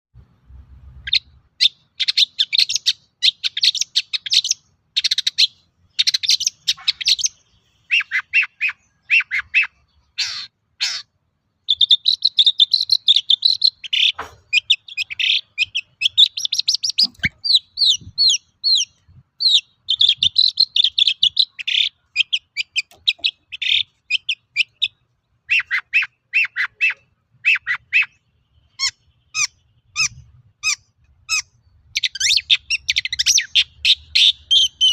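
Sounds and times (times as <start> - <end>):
shrike chattering song: 1.0 - 34.9.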